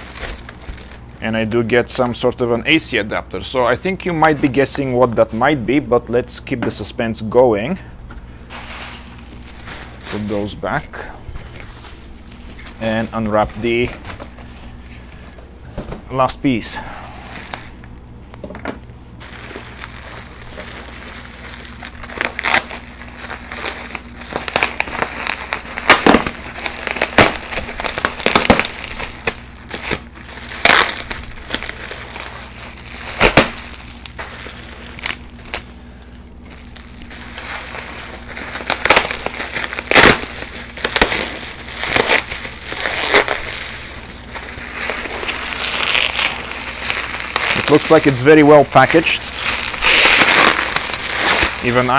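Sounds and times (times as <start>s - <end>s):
bubble wrap crinkling: 0.0s - 6.0s, 8.2s - 15.6s, 19.0s - 51.9s
low hum: 0.0s - 51.9s.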